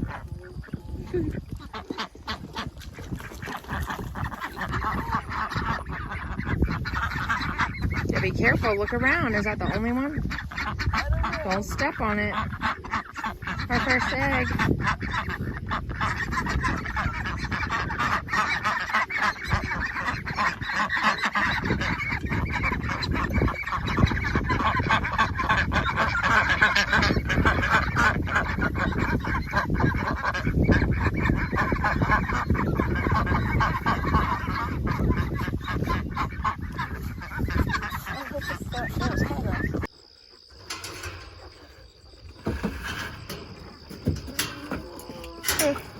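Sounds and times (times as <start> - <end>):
chickens and ducks calling: 0.0 - 45.9.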